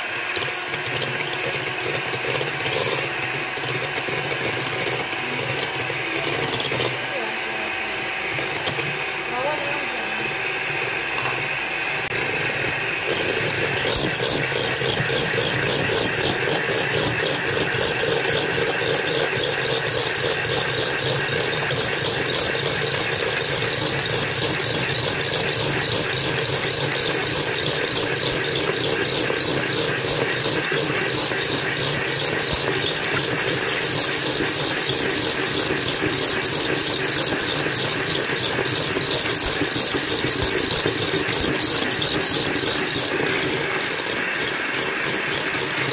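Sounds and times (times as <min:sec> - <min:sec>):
electric hand mixer whipping: 0:00.0 - 0:45.9.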